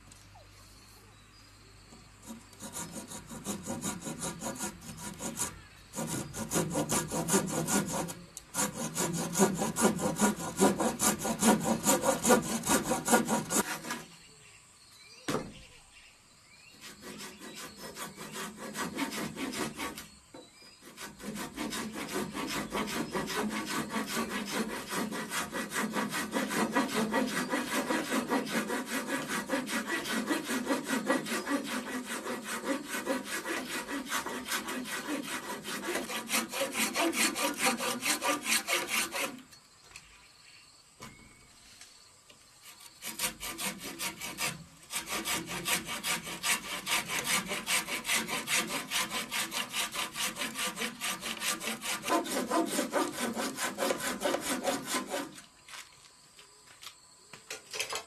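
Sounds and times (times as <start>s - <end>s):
hand saw cutting wood: 2.2s - 14.2s, 16.8s - 39.5s, 42.6s - 55.5s.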